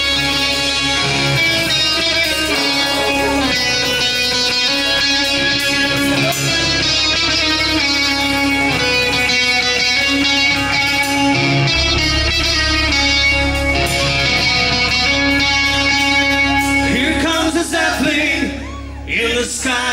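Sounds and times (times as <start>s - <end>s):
instrumental band music: 0.0s - 19.0s
low bass: 0.0s - 19.9s.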